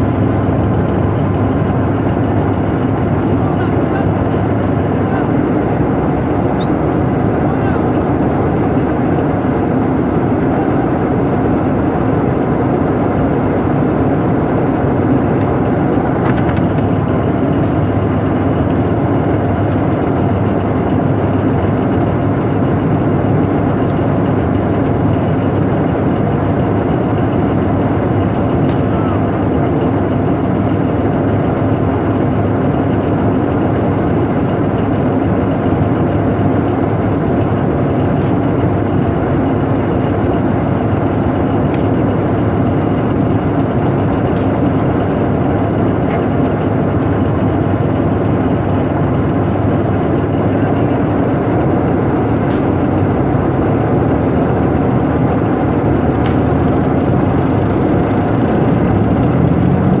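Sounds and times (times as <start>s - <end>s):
tank diesel engine droning: 0.0s - 60.0s.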